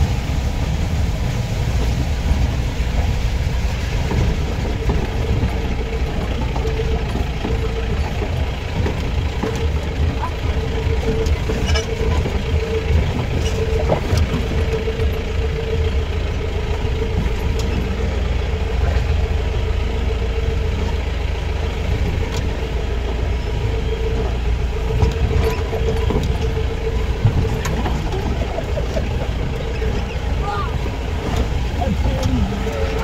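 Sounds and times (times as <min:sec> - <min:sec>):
engine low rumble: 0:00.0 - 0:33.0.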